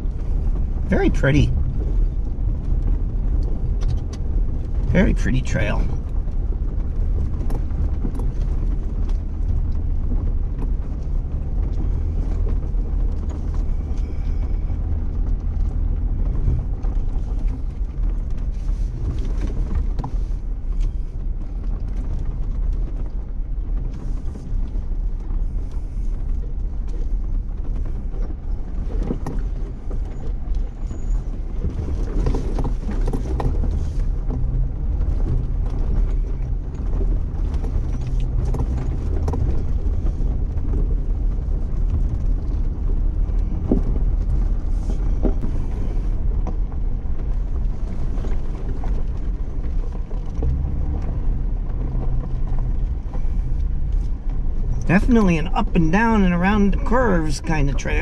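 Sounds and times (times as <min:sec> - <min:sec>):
knocks and rattles over bumps: 0:00.0 - 0:57.0
tyre and road noise: 0:00.0 - 0:58.0
vehicle engine drone: 0:00.0 - 0:58.0.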